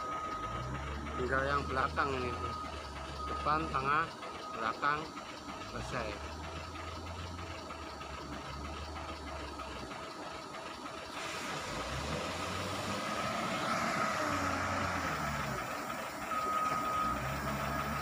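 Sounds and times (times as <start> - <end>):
steady engine whine: 0.0 - 18.0
wheel loader diesel engine rumble: 0.0 - 18.0.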